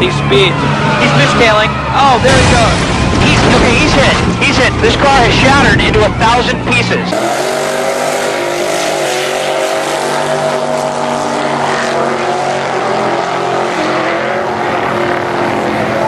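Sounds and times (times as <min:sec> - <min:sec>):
wind and road noise: 0:00.0 - 0:16.0
vehicle engine running at high revs: 0:02.2 - 0:16.0.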